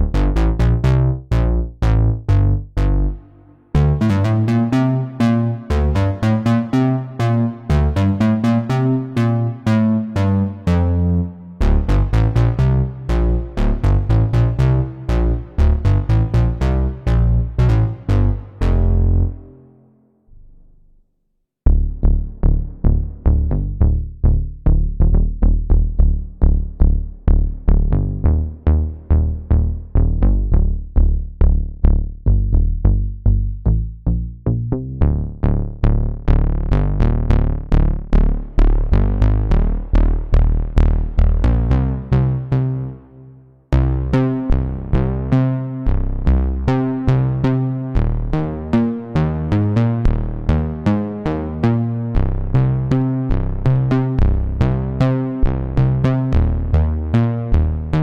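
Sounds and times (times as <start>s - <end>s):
synthesizer bass notes: 0.0s - 20.9s, 21.6s - 58.0s.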